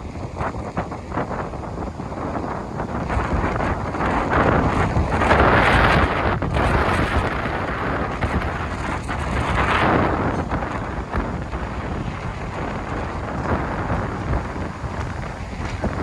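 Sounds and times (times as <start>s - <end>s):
storm wind buffeting microphone: 0.0s - 16.0s.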